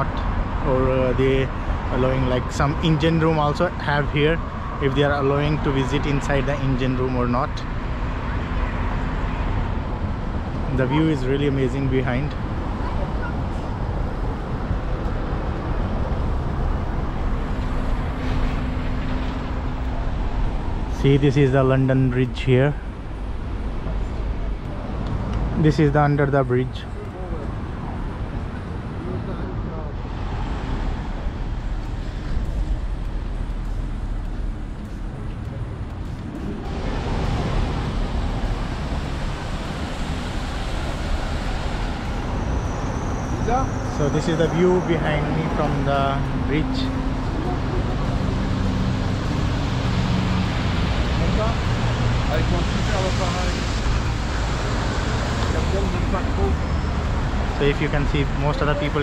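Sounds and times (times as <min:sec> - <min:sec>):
bus driving past: 0:00.0 - 0:22.1, 0:22.7 - 0:59.0
road traffic rumble: 0:00.0 - 0:59.0.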